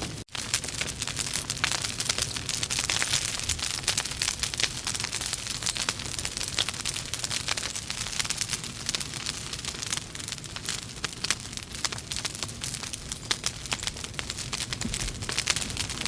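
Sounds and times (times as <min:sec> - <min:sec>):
logs crackling in fireplace: 0:00.0 - 0:16.0.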